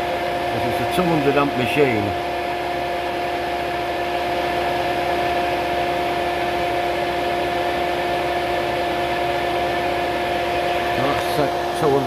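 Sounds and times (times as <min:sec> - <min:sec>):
steady electrical hum: 0:00.0 - 0:12.0
welder cooling fan whirring: 0:00.0 - 0:12.0.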